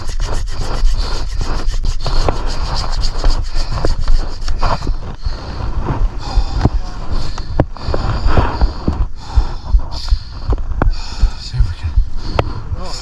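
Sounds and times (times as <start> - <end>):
rider breathing heavily: 0.6 - 13.0.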